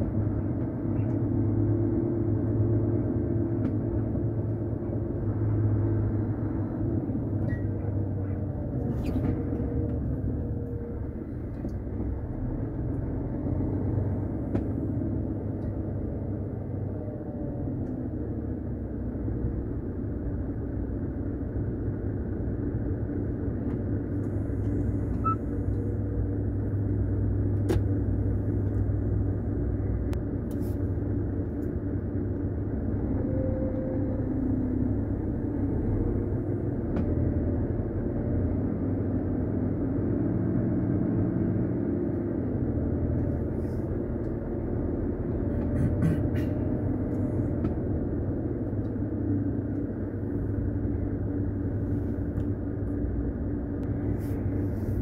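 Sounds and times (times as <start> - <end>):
truck engine and tyre rumble: 0.0 - 55.0.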